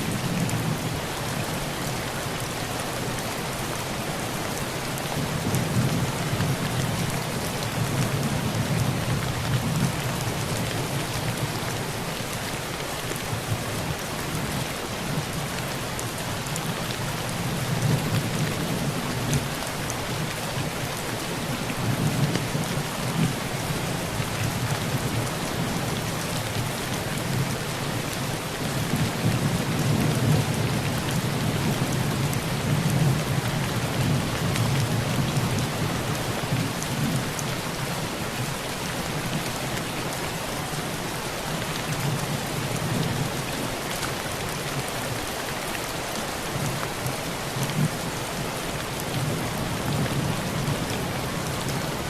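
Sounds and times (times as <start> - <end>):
heavy rain on a tin roof: 0.0 - 52.0.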